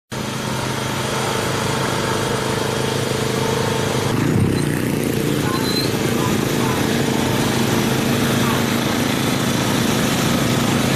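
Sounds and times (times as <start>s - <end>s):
engine running: 0.1s - 10.9s.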